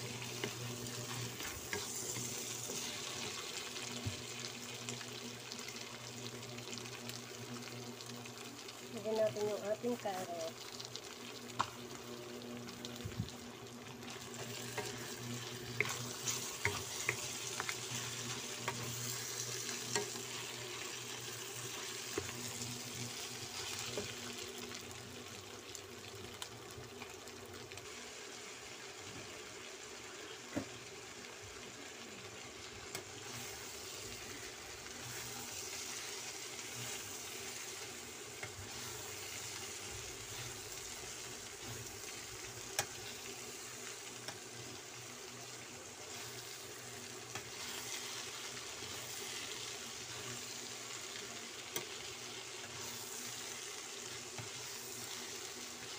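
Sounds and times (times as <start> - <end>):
food sizzling in a wok: 0.0 - 55.9.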